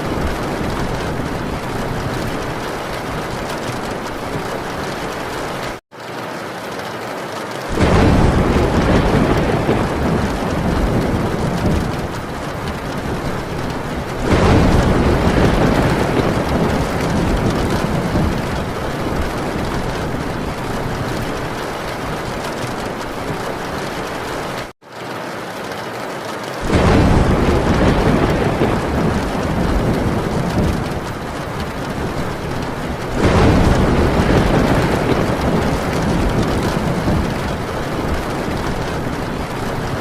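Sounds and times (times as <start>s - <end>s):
thunder rolling: 0.0s - 5.8s, 7.7s - 24.7s, 26.6s - 40.0s
heavy rain on a tin roof: 0.0s - 40.0s.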